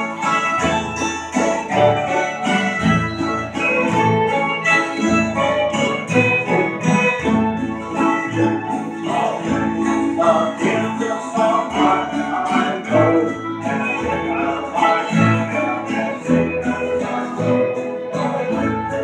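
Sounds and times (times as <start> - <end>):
acoustic guitars strumming: 0.0 - 19.0
banjo: 0.0 - 19.0
fiddle: 0.0 - 19.0
upright bass: 0.0 - 19.0.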